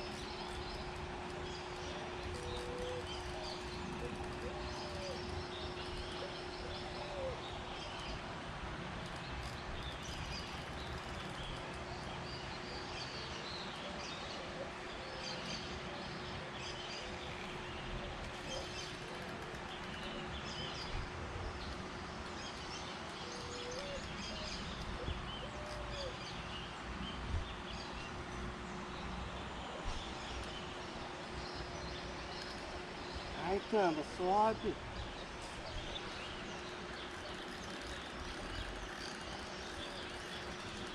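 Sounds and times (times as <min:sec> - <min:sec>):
birds chirping: 0:00.0 - 0:08.4, 0:09.0 - 0:40.9
faint steady hum: 0:00.0 - 0:40.9
steady background hiss: 0:00.0 - 0:40.9.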